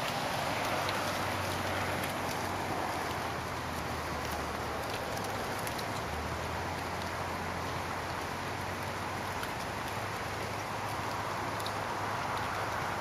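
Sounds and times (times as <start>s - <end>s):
goat hooves pattering on soft ground: 0.0s - 13.0s.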